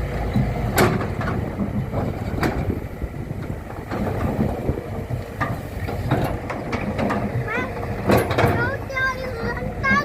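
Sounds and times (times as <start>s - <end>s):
heavy engine rumbling: 0.0s - 10.0s.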